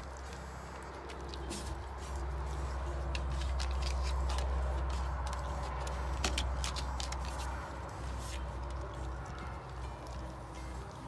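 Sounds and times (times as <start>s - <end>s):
dog chewing: 0.0s - 11.0s.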